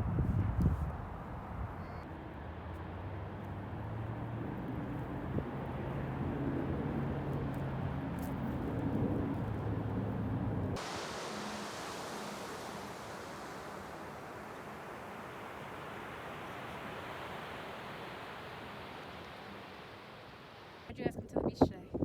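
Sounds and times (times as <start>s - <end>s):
low engine hum: 0.0s - 20.9s
steady outdoor hiss: 0.0s - 21.8s.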